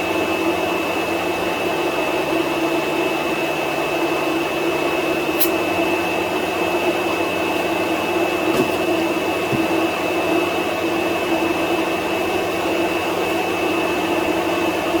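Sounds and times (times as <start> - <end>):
radiator cooling fans running: 0.0 - 15.0.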